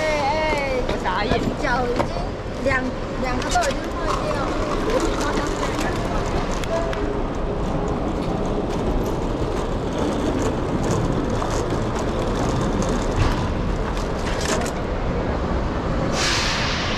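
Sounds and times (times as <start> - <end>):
trolley wheels rolling over paving: 0.0 - 16.1.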